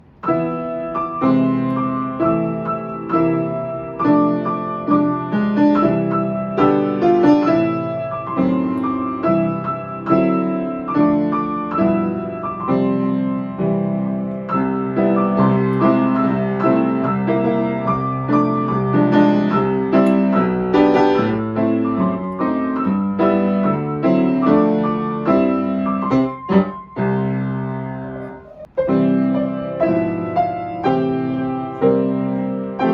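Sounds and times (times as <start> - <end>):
piano piece: 0.0 - 32.9.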